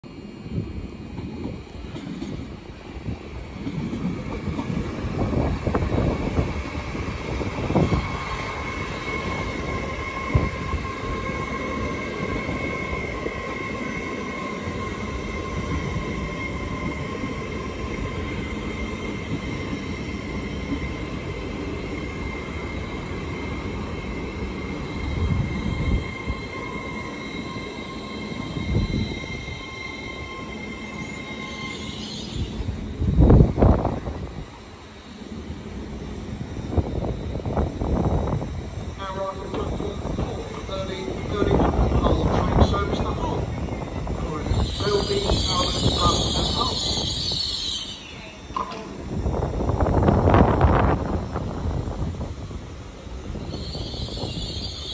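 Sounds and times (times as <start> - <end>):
train wheels rumbling on track: 0.0 - 54.9
high-pitched two-tone squeal: 7.2 - 35.3, 36.8 - 51.2, 53.2 - 54.9.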